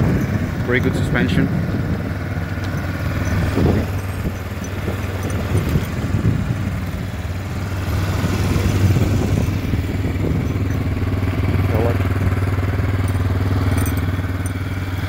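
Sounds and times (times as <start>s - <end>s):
atv engine idling: 0.0s - 15.0s.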